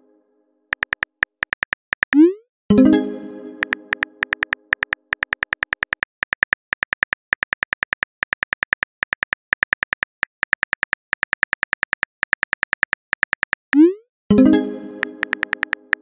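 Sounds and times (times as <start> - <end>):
keyboard typing clicks: 0.7 - 2.4, 3.6 - 14.0, 15.0 - 16.0.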